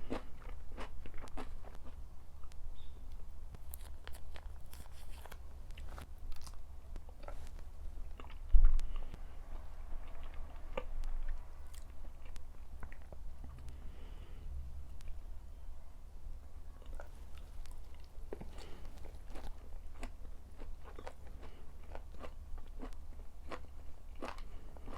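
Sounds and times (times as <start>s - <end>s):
person chewing food: 0.0s - 14.3s, 16.8s - 24.9s.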